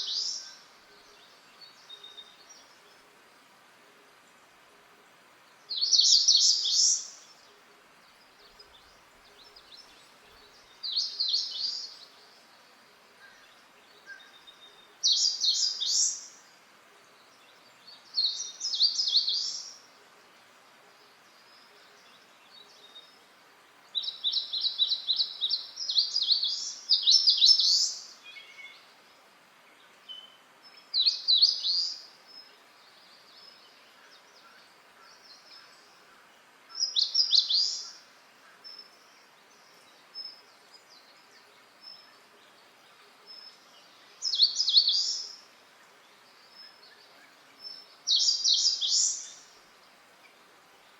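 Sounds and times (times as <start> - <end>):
faint steady hiss: 0.0 - 50.9.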